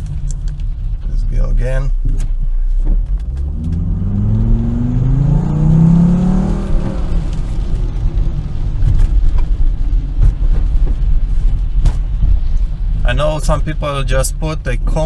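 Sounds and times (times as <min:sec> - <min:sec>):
car engine revving: 0:00.0 - 0:15.0
road and tyre rumble: 0:00.0 - 0:15.0.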